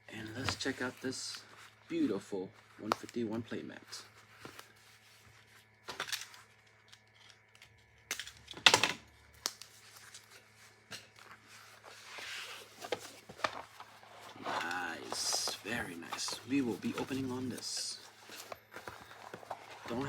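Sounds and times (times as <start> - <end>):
playmat packaging rustling: 0.3 - 8.1, 9.3 - 20.0.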